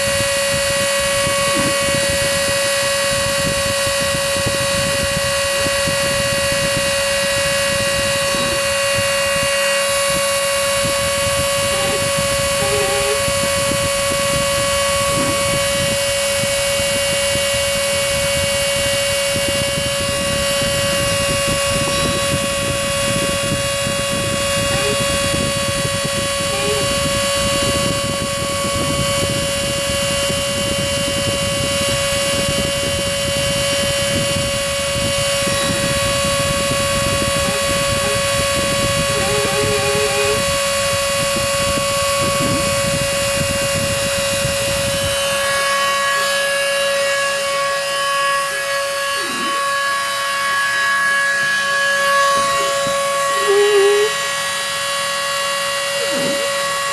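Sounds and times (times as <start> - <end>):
mechanical rumble: 0.0 - 46.4
high motor whine: 0.0 - 56.9.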